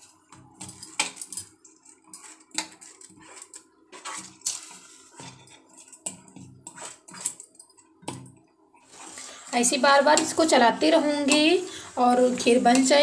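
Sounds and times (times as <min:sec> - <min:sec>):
ladle scraping steel pot: 0:00.6 - 0:07.9, 0:08.9 - 0:13.0.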